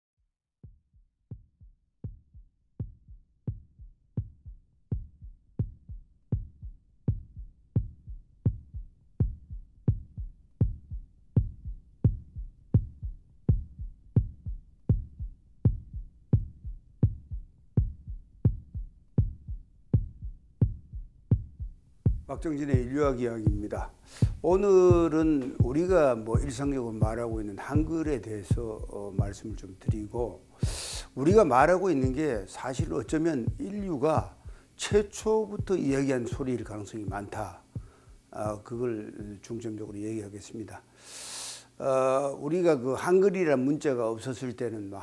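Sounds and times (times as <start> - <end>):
deep heartbeat-like bass thump: 0.6 - 36.5, 37.1 - 38.3.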